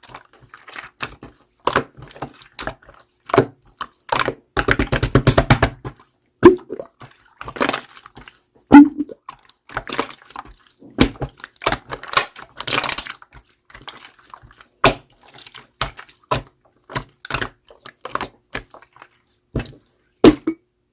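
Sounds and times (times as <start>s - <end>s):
wet slime squelches: 0.0s - 20.6s.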